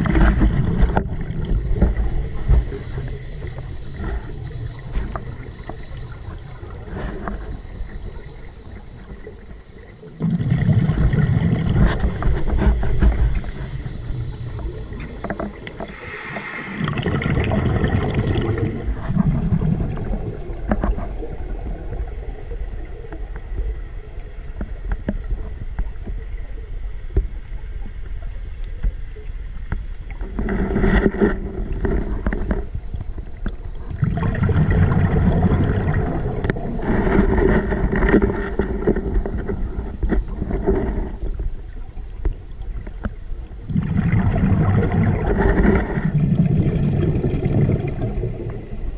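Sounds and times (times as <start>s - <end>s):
underwater regulator bubbles gurgling: 0.0s - 28.9s, 29.9s - 48.9s.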